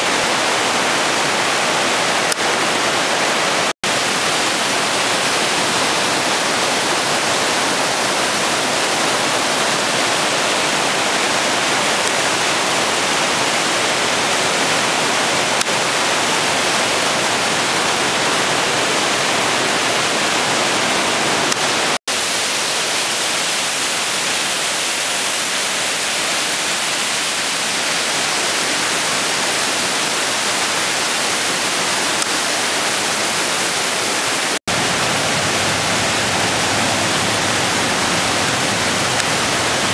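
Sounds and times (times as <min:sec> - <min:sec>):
stream rushing through rocks: 0:00.0 - 0:39.9.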